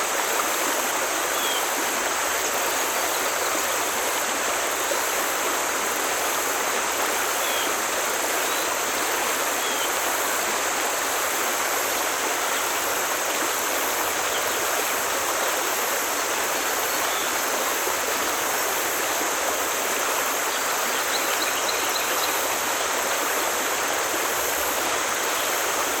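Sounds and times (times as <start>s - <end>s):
stream flowing over rocks: 0.0s - 26.0s.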